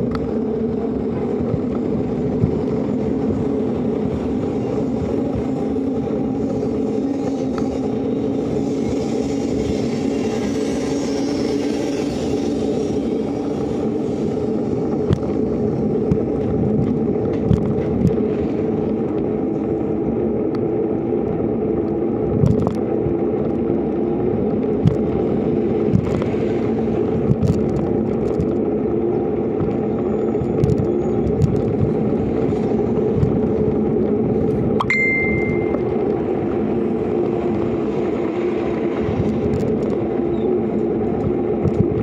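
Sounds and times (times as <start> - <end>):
bicycle tyre and wind rumble: 0.0 - 42.0.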